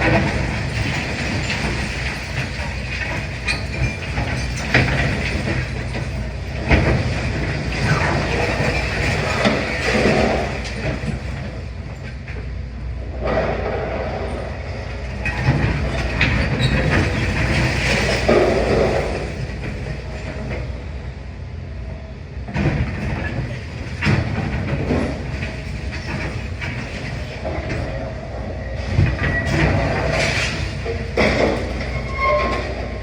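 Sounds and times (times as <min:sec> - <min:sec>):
masonry crunching and clattering: 0:00.0 - 0:11.7, 0:15.2 - 0:20.7, 0:22.6 - 0:28.0, 0:28.8 - 0:33.0
excavator engine rumble: 0:00.0 - 0:33.0.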